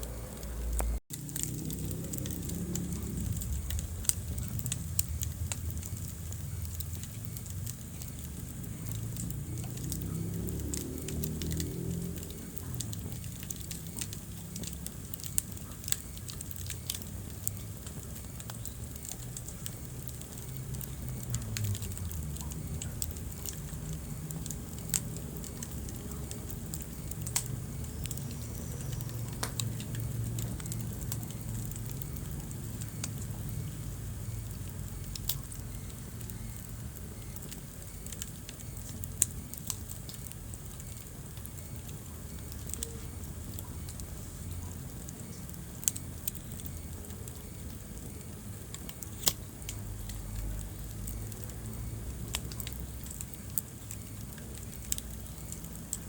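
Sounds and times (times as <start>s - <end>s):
burning logs crackling and popping: 0.0s - 56.0s
rumble of fire flames: 0.0s - 56.0s.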